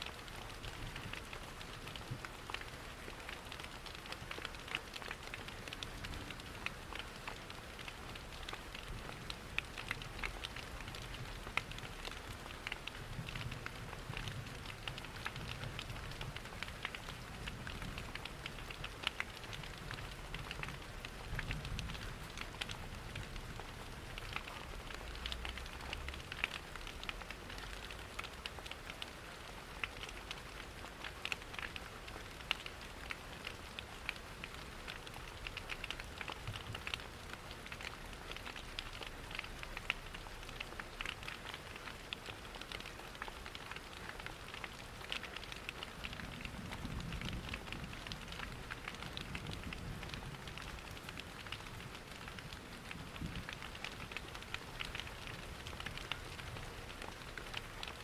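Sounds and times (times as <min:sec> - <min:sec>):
crackling wood fire: 0:00.0 - 0:58.0
rain on a window: 0:00.0 - 0:58.0.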